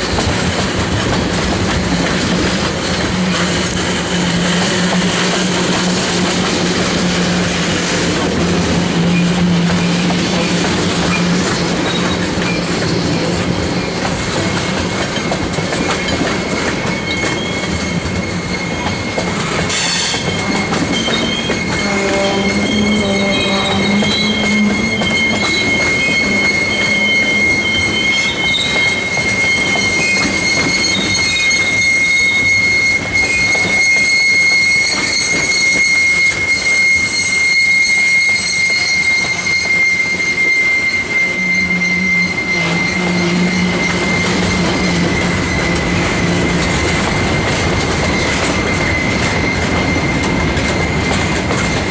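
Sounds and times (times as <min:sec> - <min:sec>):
train wheels rumbling on rails: 0:00.0 - 0:51.9
wheels squealing against rail: 0:00.0 - 0:51.9.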